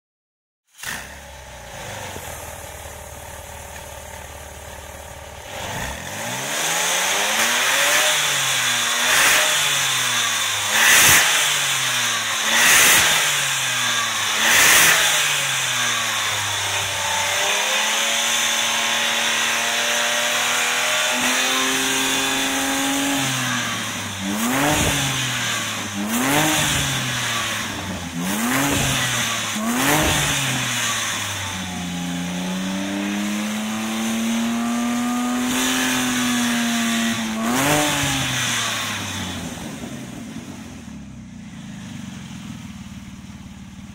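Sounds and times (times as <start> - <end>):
car engine revving: 0.7 - 43.9.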